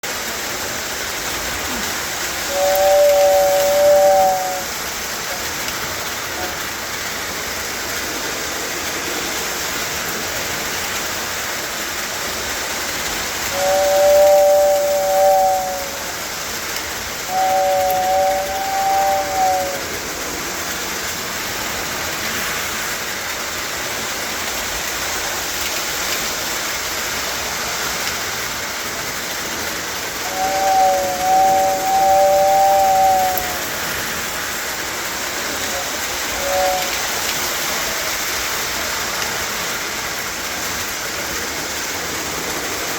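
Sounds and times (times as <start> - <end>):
steady rushing hiss: 0.0 - 42.9.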